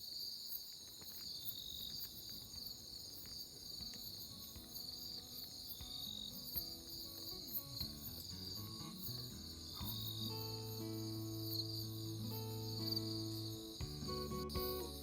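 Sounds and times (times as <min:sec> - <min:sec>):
faint scattered ticks: 0:00.0 - 0:15.0
insects chirping: 0:00.0 - 0:15.0.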